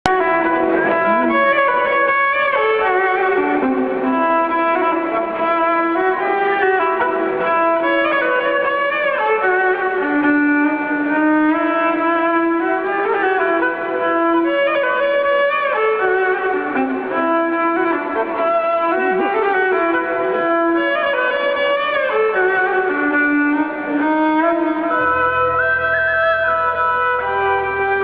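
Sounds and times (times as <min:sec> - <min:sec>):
fiddle melody with slides: 0:00.0 - 0:28.0.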